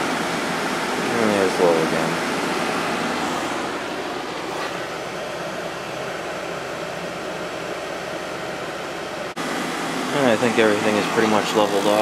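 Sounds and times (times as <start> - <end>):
air conditioner fan rushing: 0.0 - 12.0.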